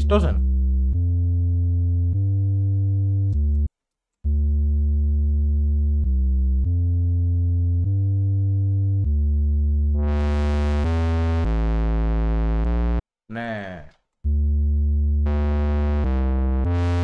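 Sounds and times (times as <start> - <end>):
synth sub-bass notes: 0.0 - 3.7, 4.3 - 13.0, 14.3 - 17.0.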